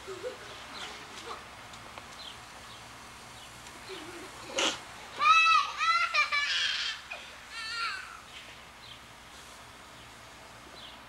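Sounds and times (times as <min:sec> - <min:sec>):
garden hose spraying water: 0:00.0 - 0:11.0.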